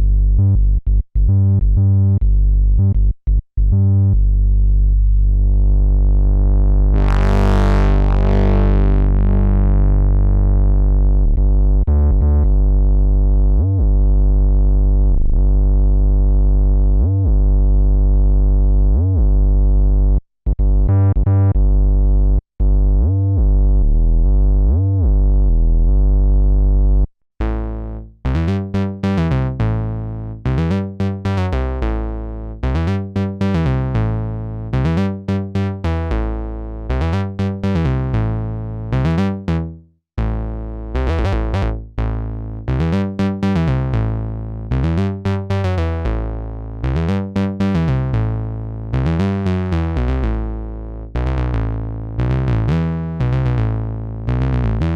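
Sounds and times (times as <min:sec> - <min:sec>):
synthesizer bass: 0:00.0 - 0:54.9.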